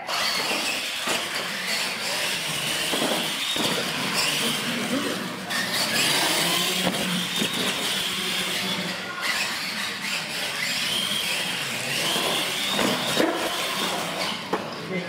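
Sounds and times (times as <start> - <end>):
toy truck motor whine: 0.0 - 14.9
tyres rumbling on concrete: 0.2 - 14.9.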